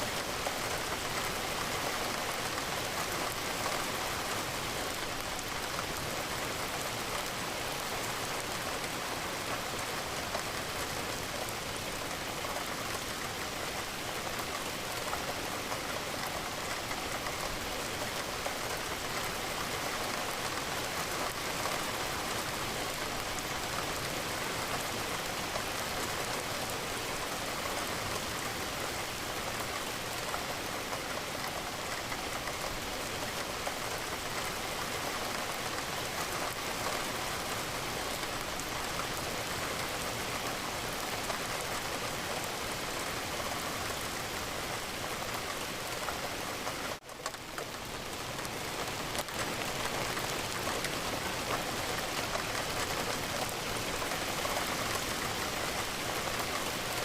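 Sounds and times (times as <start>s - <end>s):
rain against a window: 0.0s - 57.0s.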